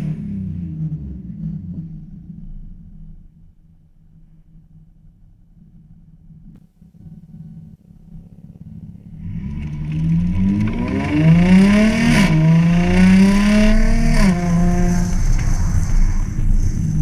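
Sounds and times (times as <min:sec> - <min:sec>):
car engine accelerating hard: 0:00.0 - 0:03.4, 0:06.6 - 0:17.0.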